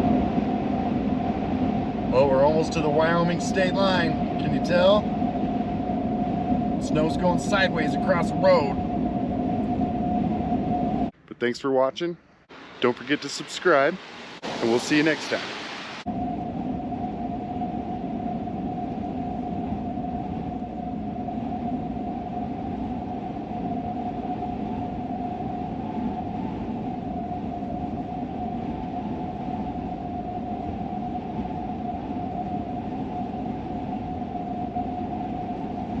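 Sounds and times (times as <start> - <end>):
constant high whine: 0.0 - 36.0.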